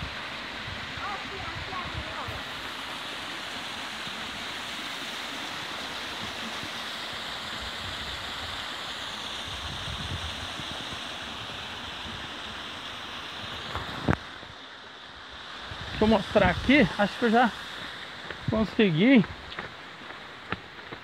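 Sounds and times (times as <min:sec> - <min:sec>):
stream rushing over rock: 0:00.0 - 0:21.0.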